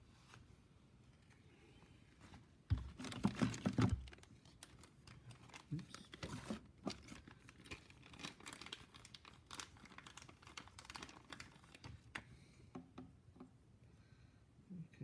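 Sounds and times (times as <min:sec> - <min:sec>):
faint crinkling: 0:00.0 - 0:12.6.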